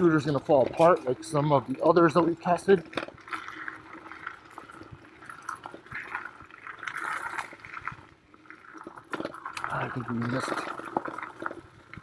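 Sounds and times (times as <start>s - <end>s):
scooter tyres crunching on dirt: 0.0s - 12.0s.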